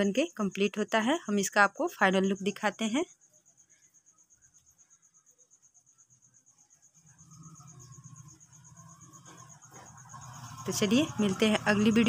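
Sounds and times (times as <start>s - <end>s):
high-pitched insect chirping: 0.0s - 12.0s.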